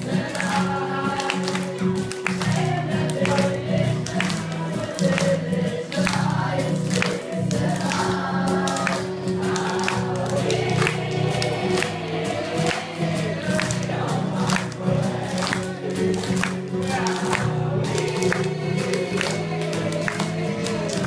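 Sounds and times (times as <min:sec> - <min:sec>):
acoustic guitar: 0:00.0 - 0:21.0
group of young voices singing: 0:00.0 - 0:21.0.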